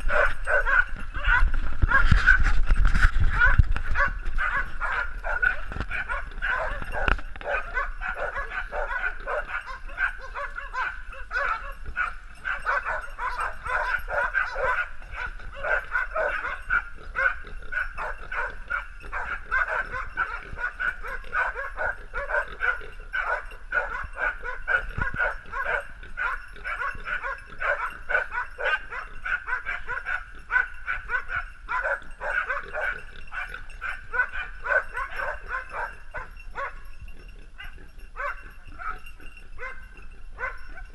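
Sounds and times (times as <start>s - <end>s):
dogs barking and yelping: 0.0s - 40.9s.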